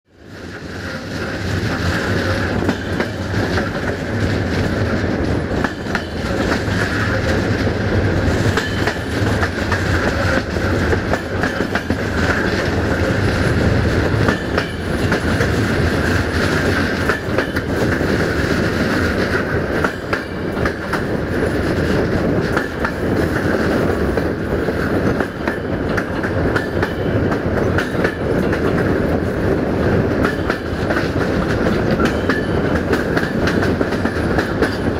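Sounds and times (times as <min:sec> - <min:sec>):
train wheels rumbling: 0:00.1 - 0:34.9
wheels clicking over rail joints: 0:00.9 - 0:34.9.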